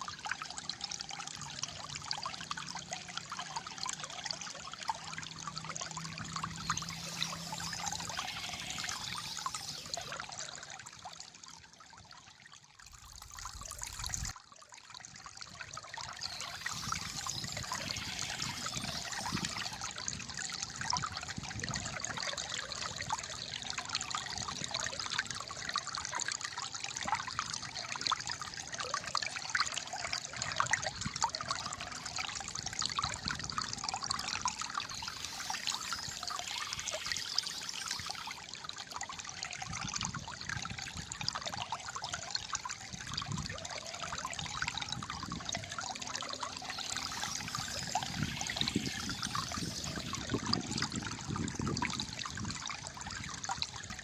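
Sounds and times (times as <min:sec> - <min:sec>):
shallow water gurgling: 0:00.0 - 0:54.0.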